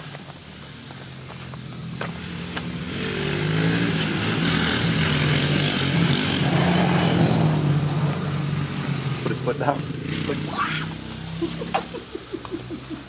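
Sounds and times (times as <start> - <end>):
atv engine passing by: 0.5 - 13.0.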